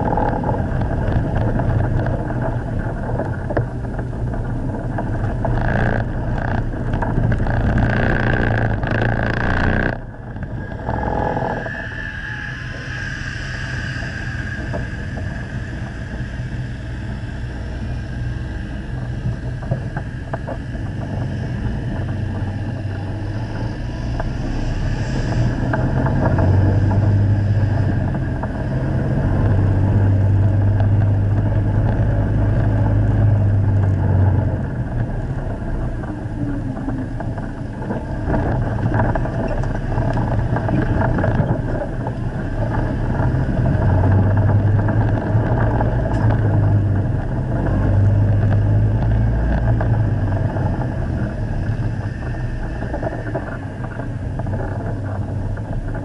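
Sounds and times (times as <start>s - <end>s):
engine running under load: 0.0s - 12.0s, 13.0s - 56.0s.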